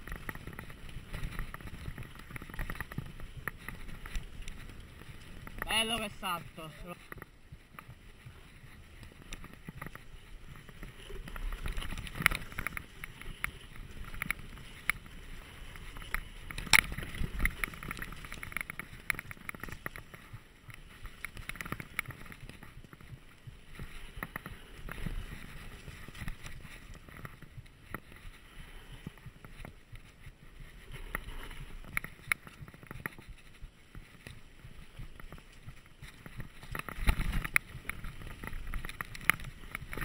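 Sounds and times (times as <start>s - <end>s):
bike rattling over bumps: 0.0s - 28.3s, 31.6s - 40.0s
bike tyres on dirt trail: 0.0s - 40.0s.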